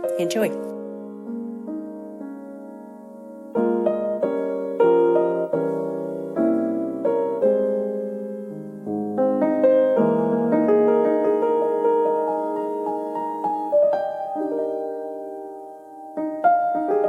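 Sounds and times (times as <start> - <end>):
slow solo piano chords: 0.0 - 17.0.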